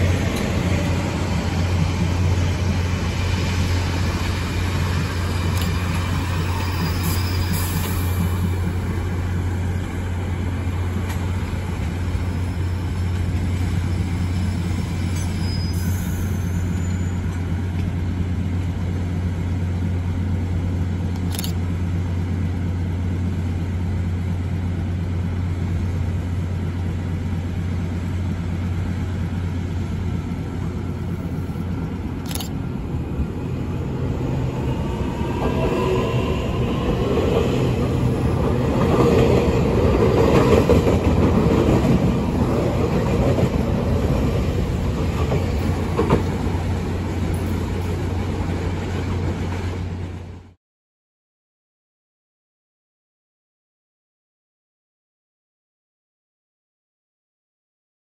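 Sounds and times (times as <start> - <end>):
diesel train idling drone: 0.0 - 15.1, 16.6 - 50.5
train wheel rumble: 0.0 - 50.6.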